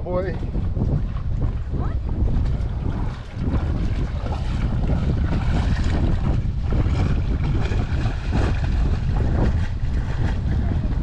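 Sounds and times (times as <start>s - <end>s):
wind buffeting microphone: 0.0s - 11.0s
splashing of wading in water: 0.4s - 11.0s.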